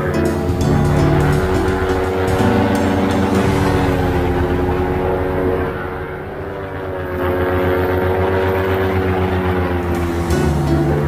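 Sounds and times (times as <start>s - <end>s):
paramotor engine and propeller: 0.0s - 11.0s.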